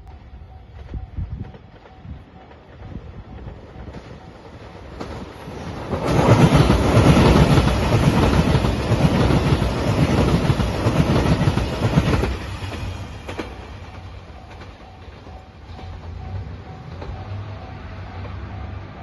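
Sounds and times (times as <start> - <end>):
diesel train engine passing: 0.0 - 19.0
train wheels clattering on rails: 0.0 - 19.0.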